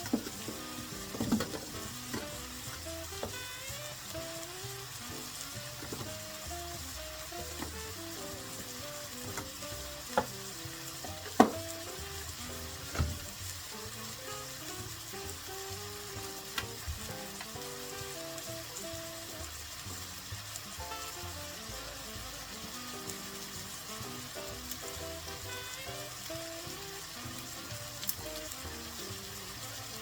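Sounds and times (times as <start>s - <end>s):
food sizzling in a pan: 0.0s - 30.0s
quiet background melody: 0.0s - 30.0s.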